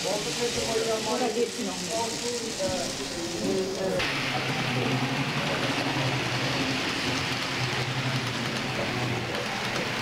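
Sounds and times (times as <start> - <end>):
model train motor hum: 0.0 - 10.0
train rolling noise: 0.0 - 10.0.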